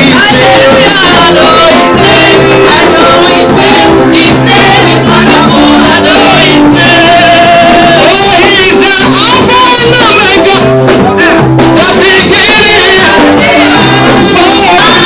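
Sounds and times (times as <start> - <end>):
woman singing lead: 0.0 - 10.6, 11.8 - 15.0
gospel band playing: 0.0 - 15.0
shaken tambourines: 0.0 - 15.0.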